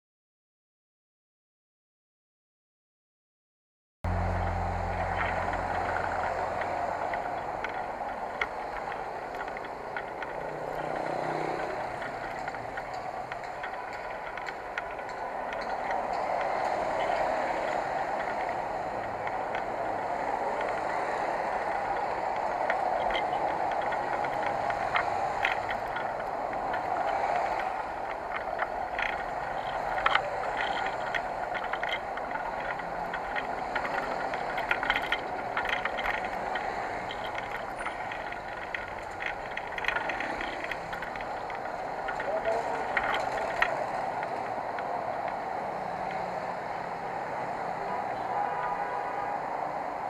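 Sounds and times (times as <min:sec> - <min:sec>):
bicycle parts rattling: 0:04.1 - 0:47.4
wind and tyres rushing: 0:04.1 - 0:50.0.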